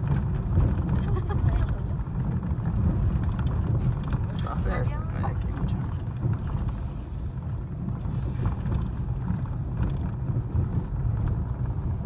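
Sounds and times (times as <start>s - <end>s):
car engine rumble: 0.0s - 12.0s
tyres on concrete road: 0.0s - 12.0s.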